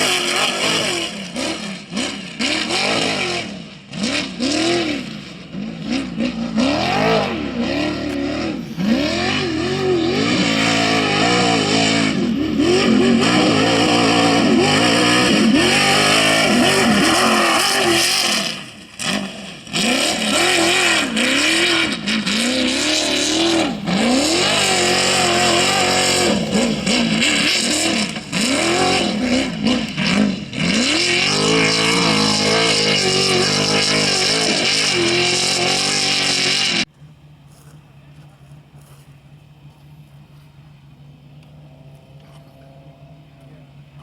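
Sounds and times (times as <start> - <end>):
race vehicle engines revving: 0.0 - 44.0.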